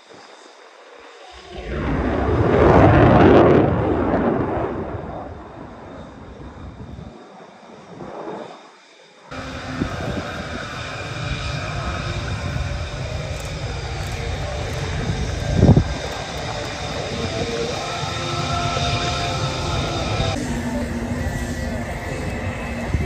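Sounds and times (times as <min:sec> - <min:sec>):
jet engine whine: 0:00.0 - 0:23.0
jet rushing past: 0:01.2 - 0:20.5.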